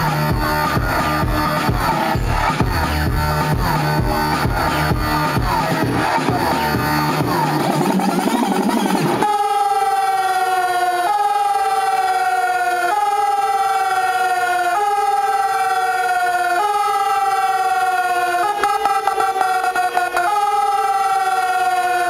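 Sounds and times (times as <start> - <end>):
siren-like synth effect: 0.0 - 22.0.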